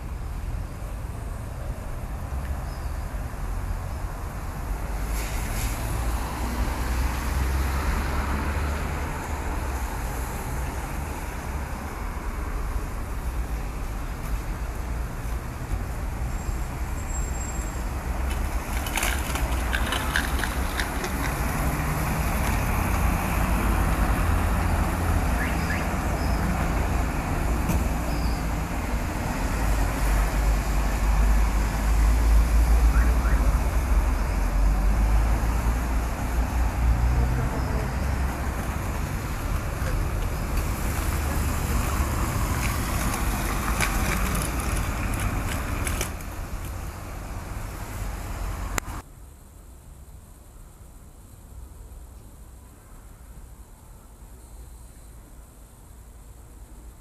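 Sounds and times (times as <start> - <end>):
cars passing: 0.0 - 49.0
tyre hiss on wet asphalt: 2.0 - 52.6.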